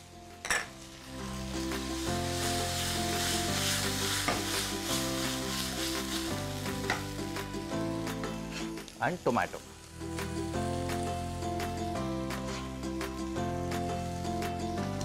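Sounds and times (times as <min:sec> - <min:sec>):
background music: 0:00.0 - 0:15.0
food sizzling in frying pan: 0:00.0 - 0:15.0.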